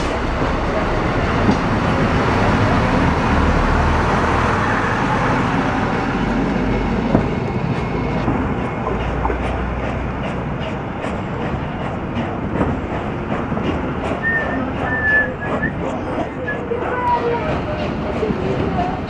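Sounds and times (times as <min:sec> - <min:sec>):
rail clicks: 0:00.0 - 0:19.0
train rumble and rail noise: 0:00.0 - 0:19.0.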